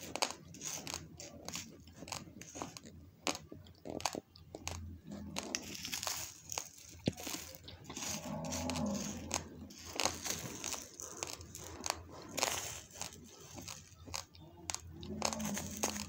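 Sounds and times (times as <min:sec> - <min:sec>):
dry rice crunching: 0:00.0 - 0:16.0.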